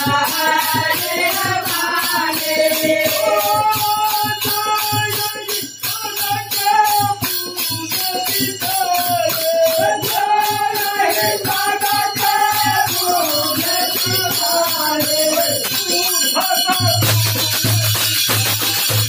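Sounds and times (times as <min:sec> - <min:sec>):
jingling hand percussion: 0:00.0 - 0:19.0
men singing devotional song: 0:00.0 - 0:19.0.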